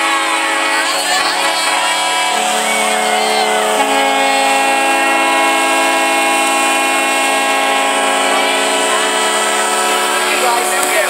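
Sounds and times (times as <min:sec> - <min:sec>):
horn chord: 0:00.0 - 0:11.0.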